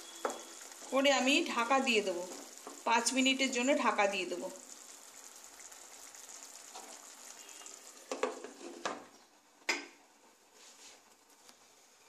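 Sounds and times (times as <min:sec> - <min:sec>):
gravy simmering with soft sizzle: 0:00.0 - 0:12.0.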